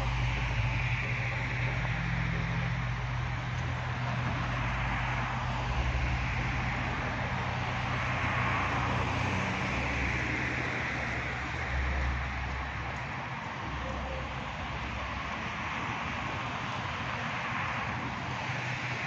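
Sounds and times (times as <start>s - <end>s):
low hum: 0.0s - 18.5s.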